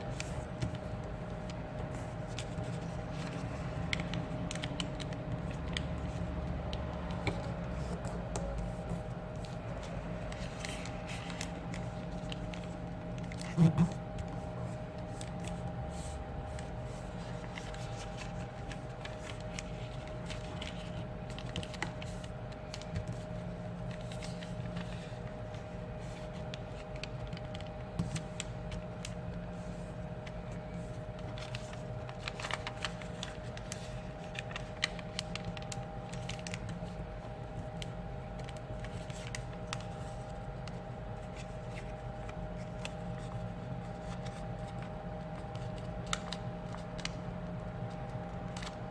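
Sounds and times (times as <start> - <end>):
electrical hum: 0.0 - 48.9
paper crinkling and folding: 0.0 - 48.9.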